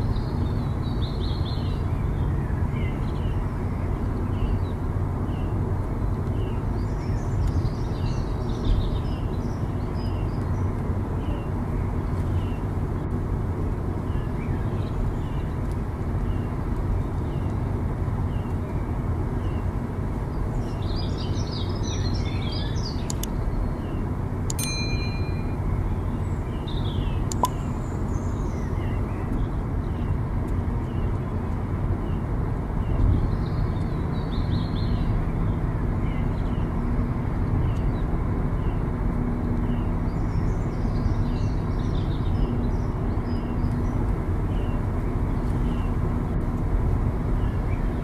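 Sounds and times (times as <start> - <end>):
birds chirping: 0.0 - 48.0
car road and engine noise: 0.0 - 48.0.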